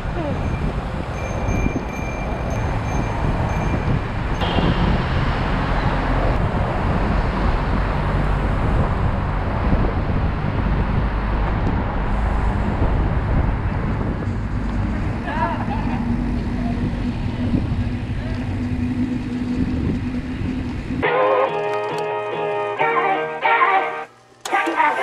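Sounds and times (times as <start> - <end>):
road and wind noise while cycling: 0.0 - 21.0.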